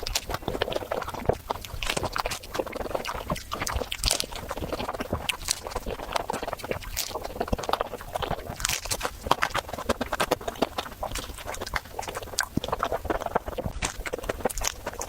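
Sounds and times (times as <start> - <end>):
crunching waffle: 0.0 - 15.0
wet mouth sounds: 0.0 - 15.0.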